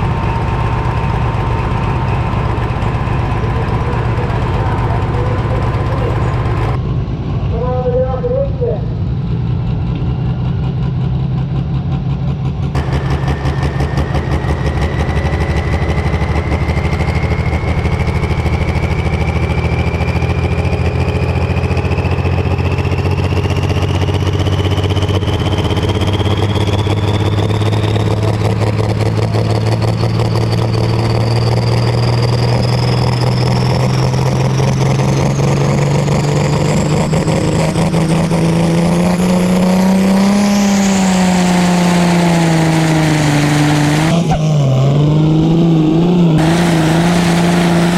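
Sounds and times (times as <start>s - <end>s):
high whine climbing in pitch: 0.0s - 10.7s, 12.7s - 47.9s
tractor engine running hard: 0.0s - 47.9s.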